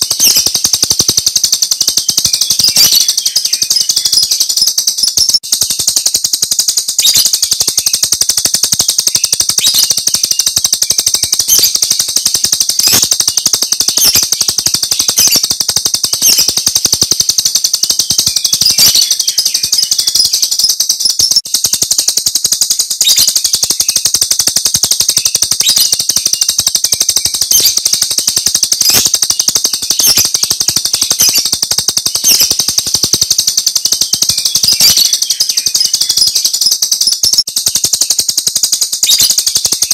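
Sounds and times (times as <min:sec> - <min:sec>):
starling chattering call: 0:00.0 - 0:39.9.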